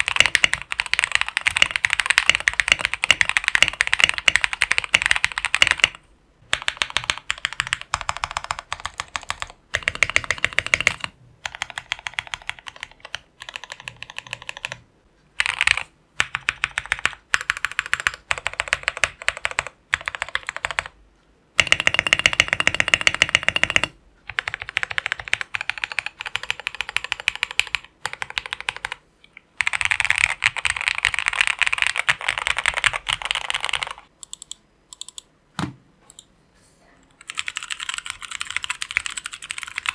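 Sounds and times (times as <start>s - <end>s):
fast typing on mechanical keyboard: 0.0s - 14.8s, 15.4s - 21.0s, 21.6s - 29.0s, 29.6s - 35.2s, 37.2s - 39.9s.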